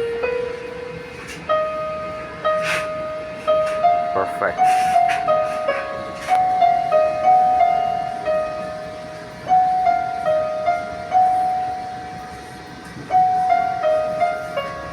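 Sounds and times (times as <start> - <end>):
electronic keyboard slow melody: 0.0 - 14.9.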